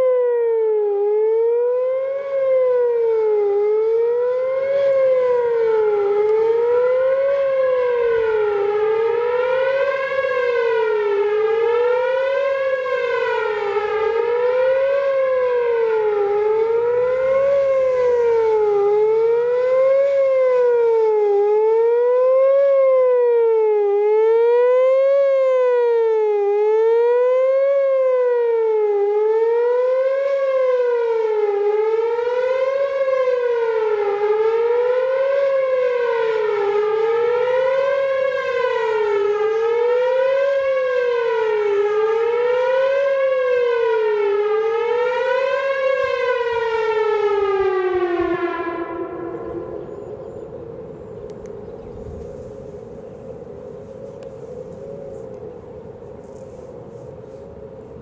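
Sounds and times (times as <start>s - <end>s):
wavering electronic warning siren: 0.0s - 58.0s.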